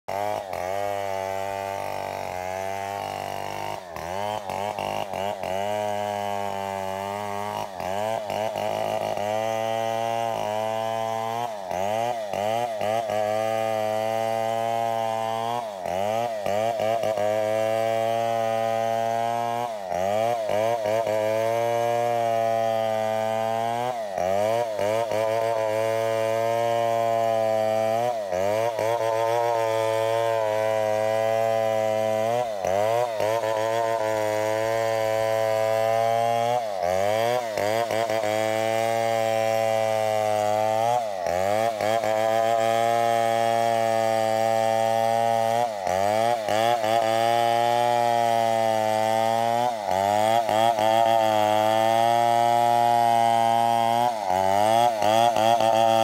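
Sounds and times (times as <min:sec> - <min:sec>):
chainsaw engine running unevenly: 0:00.0 - 0:56.0.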